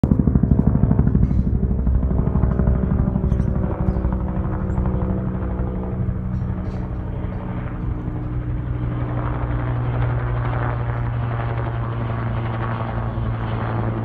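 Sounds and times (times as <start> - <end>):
helicopter engine hum: 0.0 - 14.0
helicopter rotor beating: 0.0 - 14.0.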